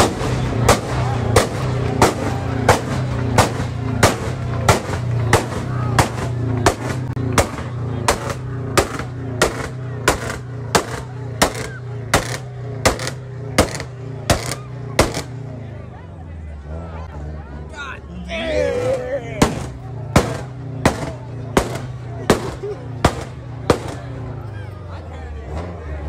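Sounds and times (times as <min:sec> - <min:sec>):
low bass: 0:00.0 - 0:26.0.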